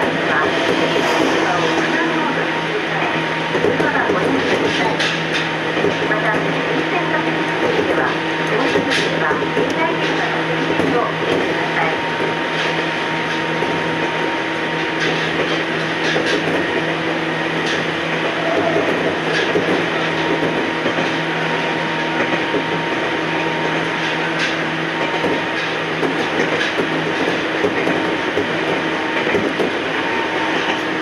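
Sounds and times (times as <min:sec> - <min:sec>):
electric train running hum: 0:00.0 - 0:31.0.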